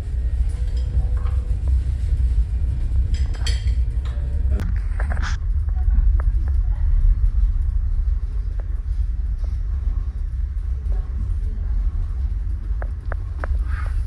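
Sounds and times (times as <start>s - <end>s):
ferry low rumble: 0.0s - 14.0s.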